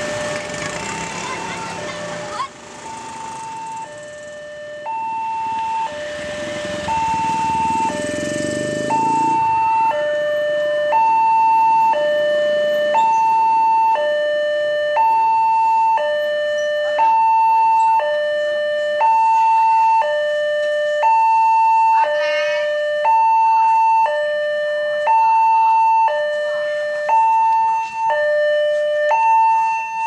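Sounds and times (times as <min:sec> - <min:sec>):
level crossing two-tone alarm: 0:00.0 - 0:30.0.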